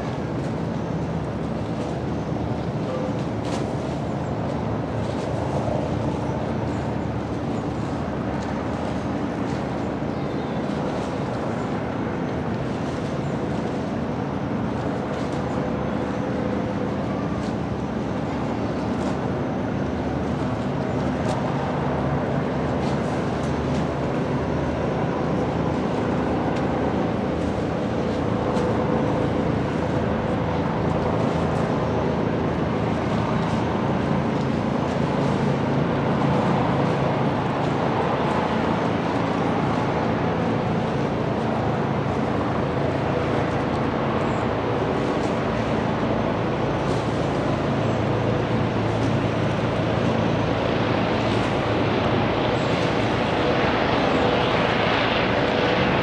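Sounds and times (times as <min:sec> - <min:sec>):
ship engines rumbling: 0:00.0 - 0:56.0.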